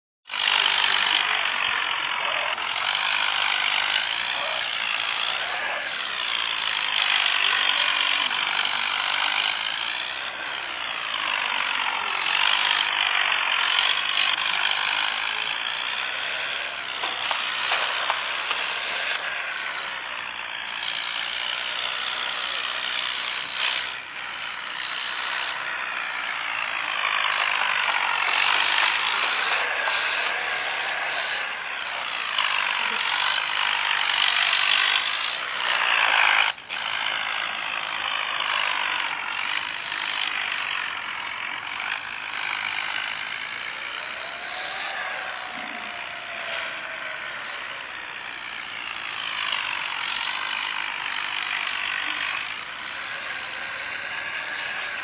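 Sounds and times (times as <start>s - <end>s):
tractor engine running: 0.2s - 55.0s.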